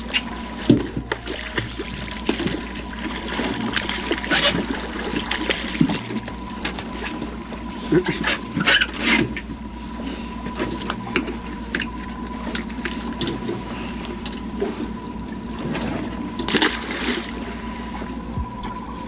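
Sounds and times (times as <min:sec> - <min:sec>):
water slapping against boat hull: 0:00.0 - 0:09.6, 0:10.4 - 0:18.8.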